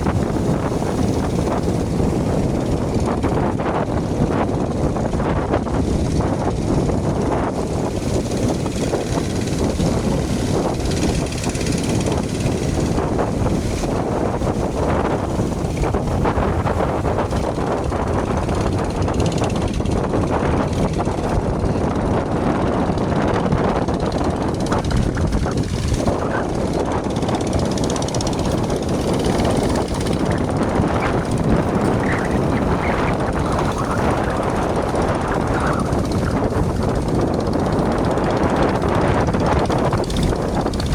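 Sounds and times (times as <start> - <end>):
motorboat engines droning: 0.0 - 40.9.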